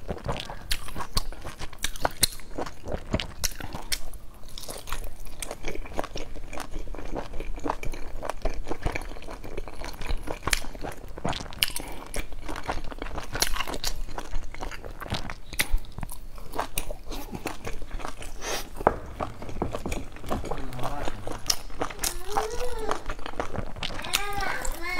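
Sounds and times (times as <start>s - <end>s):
person chewing dumplings: 0.0s - 24.9s.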